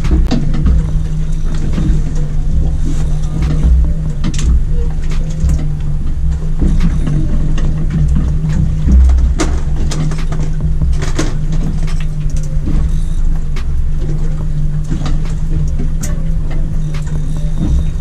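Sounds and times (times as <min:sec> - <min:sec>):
outboard motor idling: 0:00.0 - 0:18.0
sharp clicks and knocks: 0:00.0 - 0:18.0
wind buffeting microphone: 0:00.0 - 0:18.0.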